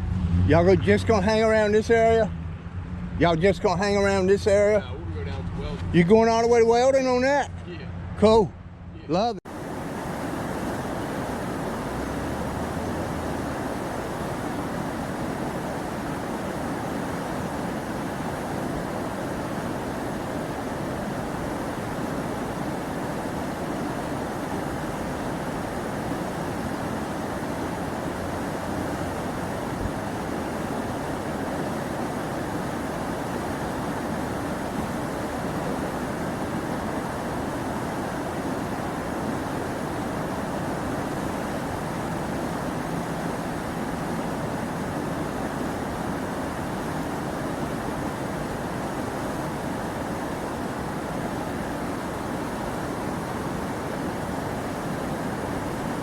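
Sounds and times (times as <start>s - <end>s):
river water rushing over rapids: 9.5s - 56.0s.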